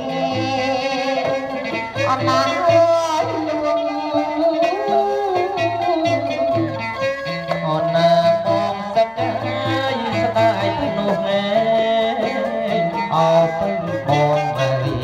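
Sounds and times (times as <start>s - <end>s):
bending melodic line: 0.0s - 15.0s.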